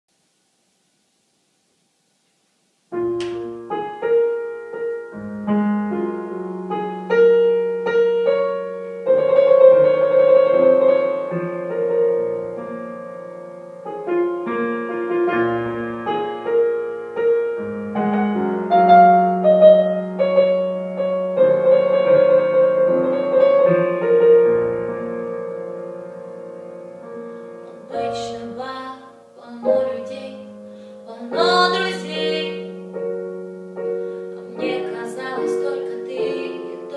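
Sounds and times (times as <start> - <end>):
slow piano playing: 2.9 - 36.9.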